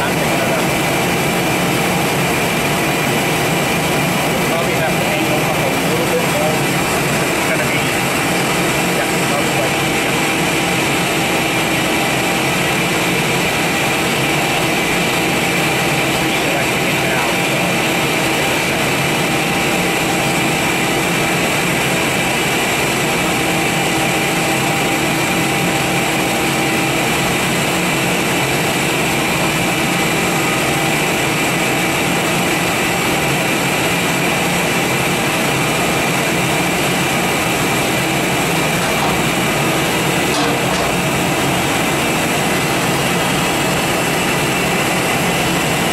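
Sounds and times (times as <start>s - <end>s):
lathe machine drone: 0.0s - 45.9s.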